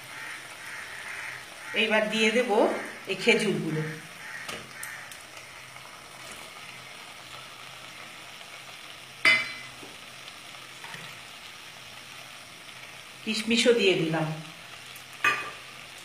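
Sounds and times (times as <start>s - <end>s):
tomato mixture sizzling in a pan: 0.0s - 16.0s.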